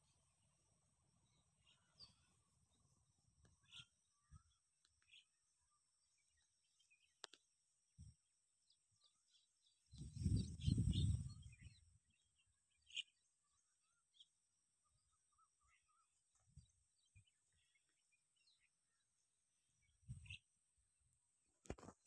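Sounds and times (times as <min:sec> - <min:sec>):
faint bird chirps: 0:00.0 - 0:20.6.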